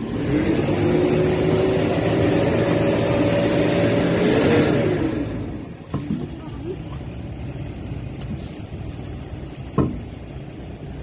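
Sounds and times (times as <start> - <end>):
vehicle engine running loudly: 0.0 - 11.0.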